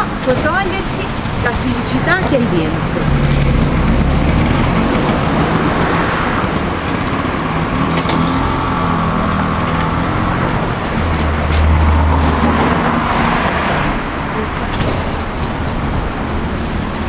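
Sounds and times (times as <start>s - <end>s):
car engines running: 0.0s - 17.0s
tyres on road: 0.0s - 17.0s.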